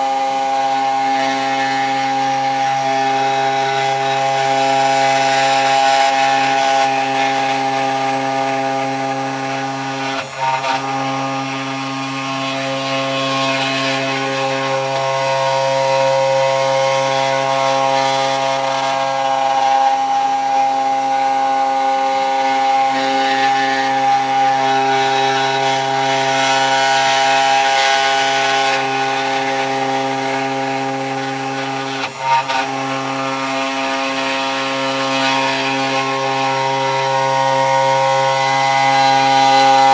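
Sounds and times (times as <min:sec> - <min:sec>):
router bit cutting wood: 0:00.0 - 0:39.9.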